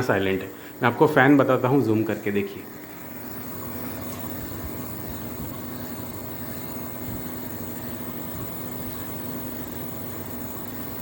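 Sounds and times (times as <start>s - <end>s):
air conditioner fan whirring: 0.0s - 11.0s.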